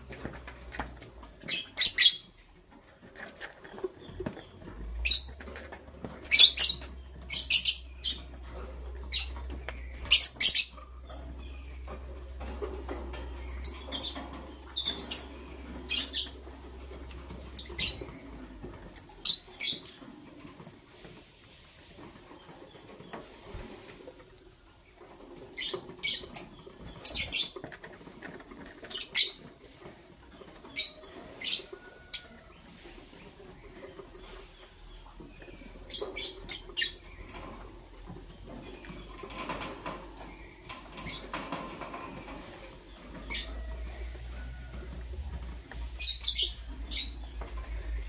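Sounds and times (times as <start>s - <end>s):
birds chirping: 0.0s - 20.7s, 22.0s - 48.0s
birds rustling: 0.0s - 48.0s.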